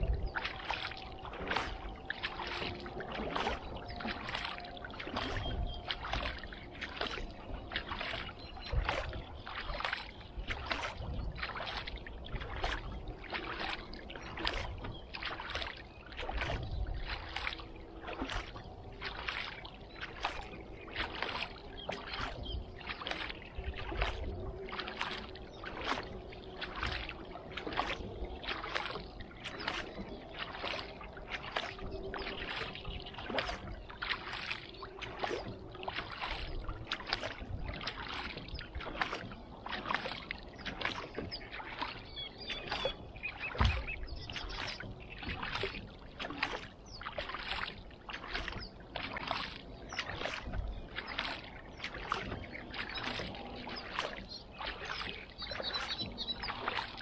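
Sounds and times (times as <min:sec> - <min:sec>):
paddle strokes splashing water: 0:00.0 - 0:57.0.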